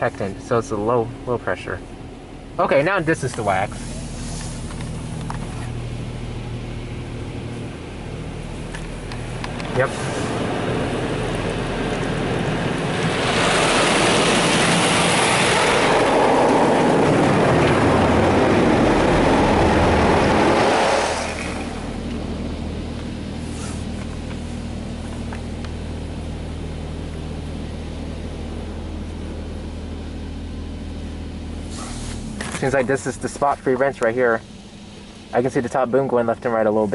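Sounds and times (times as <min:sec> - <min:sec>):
steady low hum: 0:00.0 - 0:36.9
car wash spray hissing: 0:02.8 - 0:33.6, 0:34.3 - 0:35.6.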